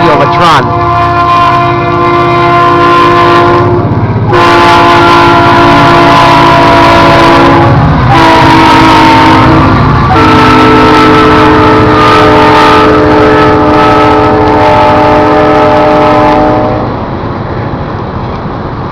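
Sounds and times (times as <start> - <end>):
locomotive air horn blasts: 0.0 - 16.9
train rumble: 0.0 - 18.9.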